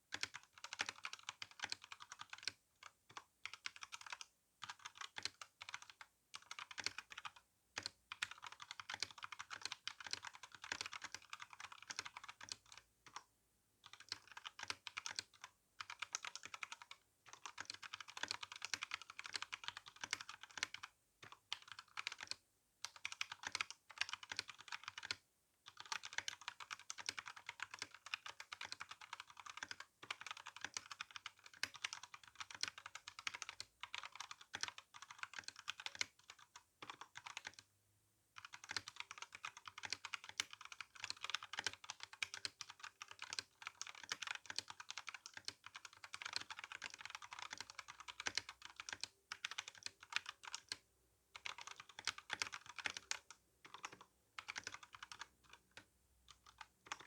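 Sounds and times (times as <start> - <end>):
mechanical keyboard typing: 0.1 - 13.2, 13.8 - 37.7, 38.4 - 50.8, 51.4 - 57.0.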